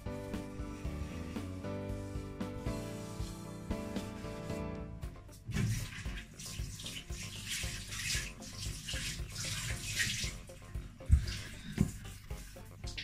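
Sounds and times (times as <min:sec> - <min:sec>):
wet cloth wiping glass hob: 0:00.2 - 0:04.6, 0:05.5 - 0:13.0.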